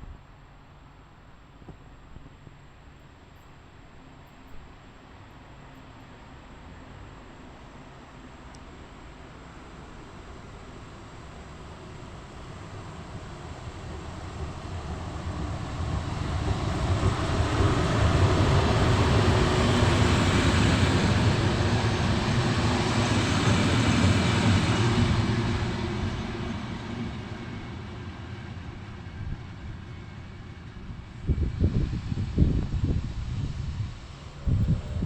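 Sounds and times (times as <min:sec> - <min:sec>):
train passing: 0:05.0 - 0:35.0.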